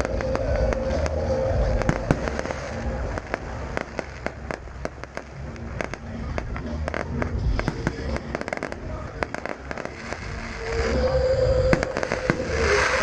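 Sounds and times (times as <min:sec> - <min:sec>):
fireworks popping and crackling: 0:00.0 - 0:13.0
low rumble: 0:00.0 - 0:13.0.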